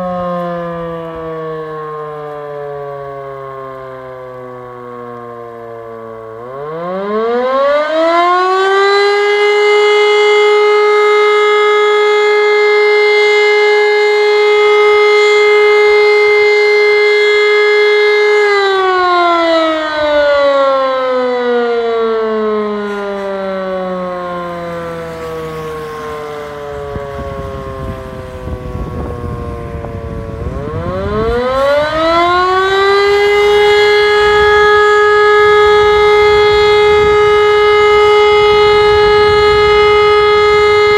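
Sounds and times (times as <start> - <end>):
motor siren howling: 0.0 - 40.9.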